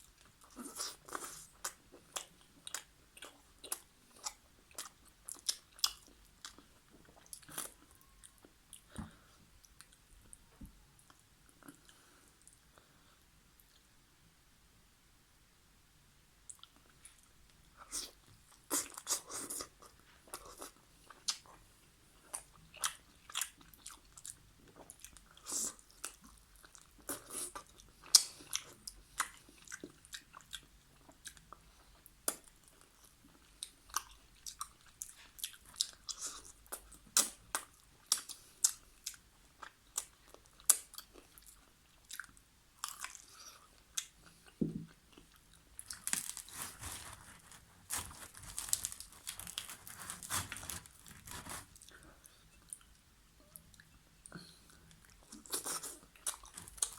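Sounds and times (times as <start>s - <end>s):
close-up chewing and mouth sounds: 0.0s - 12.9s, 16.5s - 56.9s.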